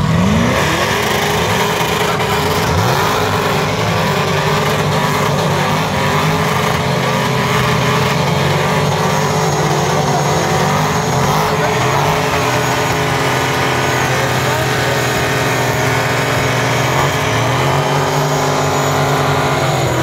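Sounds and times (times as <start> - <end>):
car engines revving high: 0.0 - 20.0.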